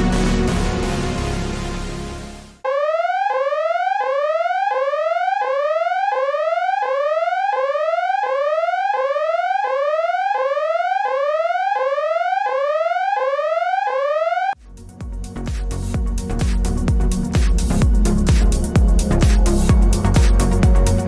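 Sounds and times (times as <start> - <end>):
electronic alarm upward sweep: 0.0 - 21.0.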